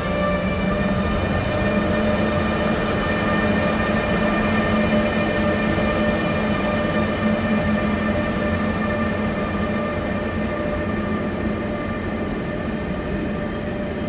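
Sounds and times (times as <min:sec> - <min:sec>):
electric locomotive rumble: 0:00.0 - 0:14.0.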